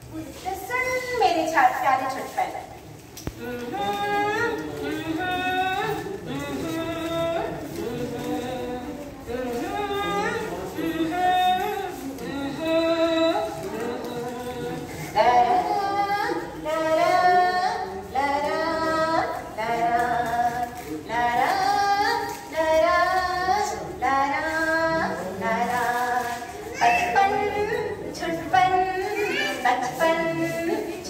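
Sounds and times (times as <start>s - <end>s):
woman singing a lullaby: 3.3s - 31.0s.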